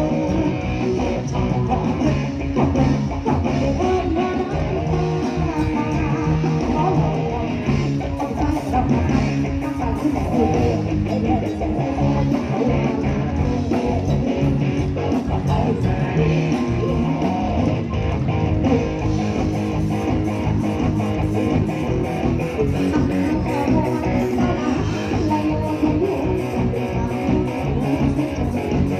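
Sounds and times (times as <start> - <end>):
lead guitar: 0.0 - 28.9
live band playing: 0.0 - 28.9.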